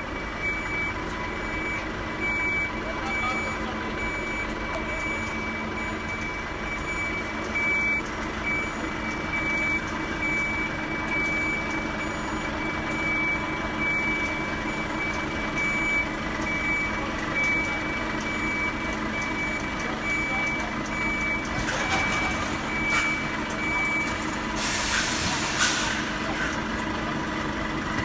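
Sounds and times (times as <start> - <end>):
vehicle warning beeper: 0.0 - 26.6
engine running: 0.0 - 28.0.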